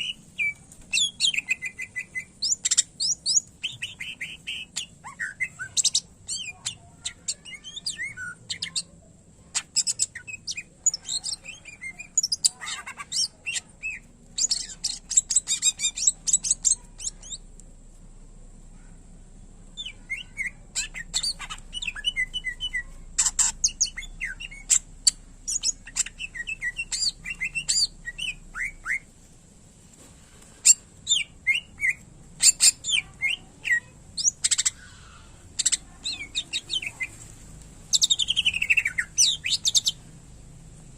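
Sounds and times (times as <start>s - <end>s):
bird singing chirps and trills: 0.0s - 17.4s, 19.8s - 29.1s, 30.7s - 37.2s, 37.9s - 40.0s.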